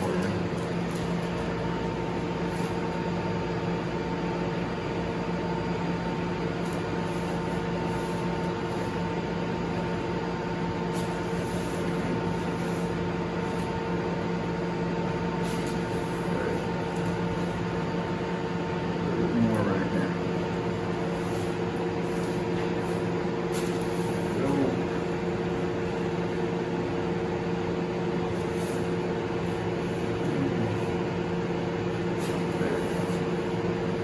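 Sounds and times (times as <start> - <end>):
steady machine hum: 0.0 - 34.0.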